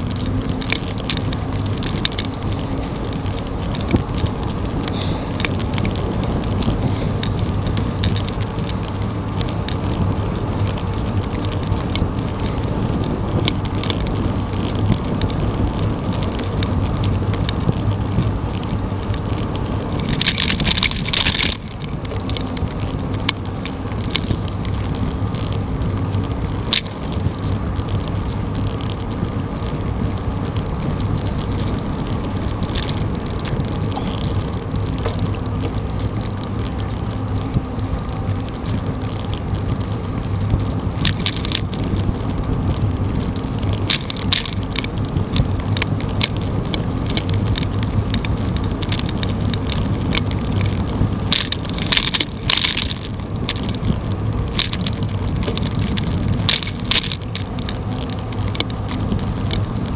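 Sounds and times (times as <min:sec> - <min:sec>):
bicycle clicks and rattles: 0:00.0 - 0:59.9
bicycle tyre road rumble: 0:00.0 - 0:59.9
wind buffeting the microphone: 0:00.0 - 0:59.9.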